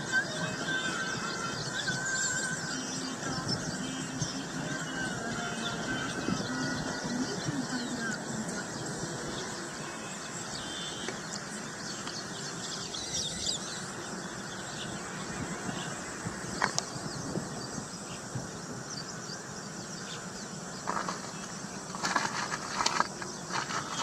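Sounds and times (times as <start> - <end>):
many birds chirping: 0.0 - 24.0
steady background rush: 0.0 - 24.0.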